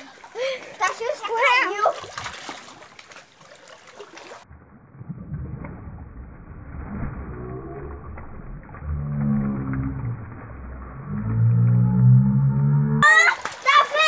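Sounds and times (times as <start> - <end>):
children splashing in pool: 0.0 - 14.0
muffled underwater churn: 0.0 - 14.0.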